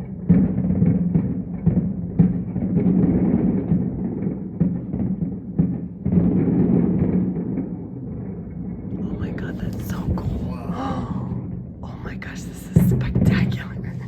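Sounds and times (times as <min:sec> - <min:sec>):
fireworks booming: 0:00.0 - 0:11.8, 0:12.6 - 0:14.0.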